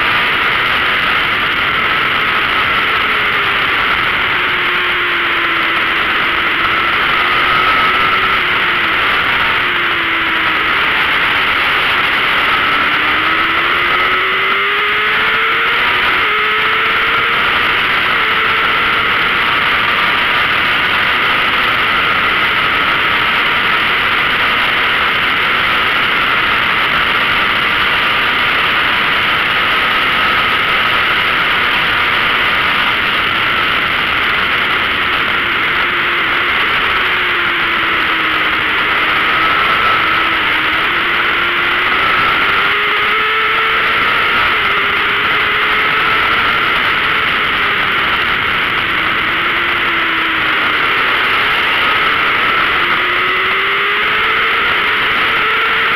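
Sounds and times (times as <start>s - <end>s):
high-revving motorcycle engine: 0.0s - 55.9s
wind rushing over microphone: 0.0s - 55.9s.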